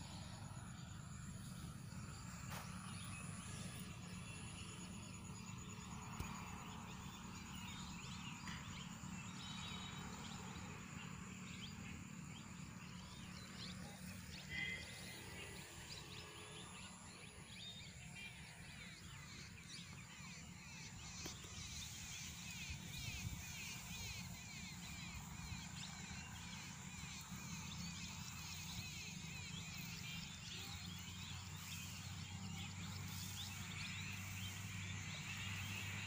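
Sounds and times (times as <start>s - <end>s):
low steady rumble: 0.0s - 29.1s
insect calls: 0.0s - 36.0s.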